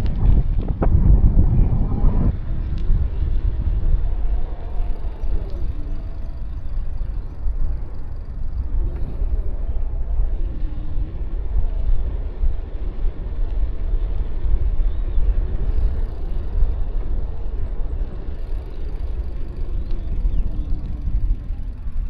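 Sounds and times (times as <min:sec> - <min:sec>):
wind and road rumble: 0:00.0 - 0:22.0.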